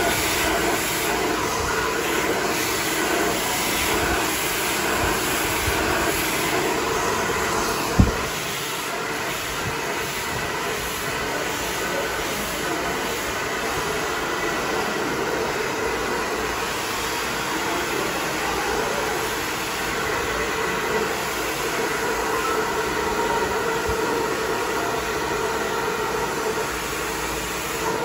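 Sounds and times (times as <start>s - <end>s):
hot-air brush blowing: 0.0s - 28.0s.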